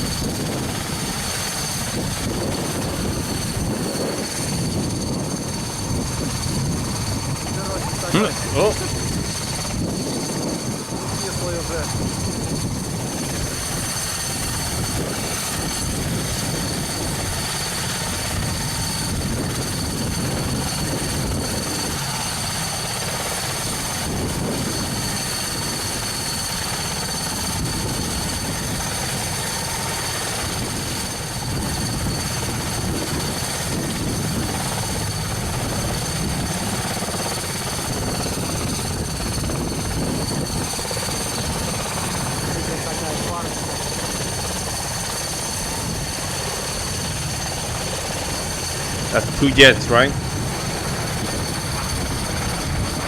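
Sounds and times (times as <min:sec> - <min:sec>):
helicopter turbine engines running: 0:00.0 - 0:53.0.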